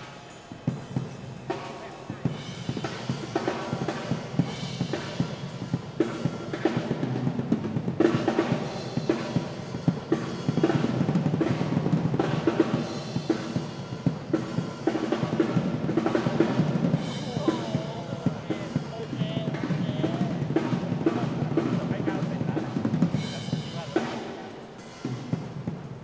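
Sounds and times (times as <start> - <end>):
cymbal crashes: 0.0 - 26.0
drum kit solo: 0.0 - 26.0.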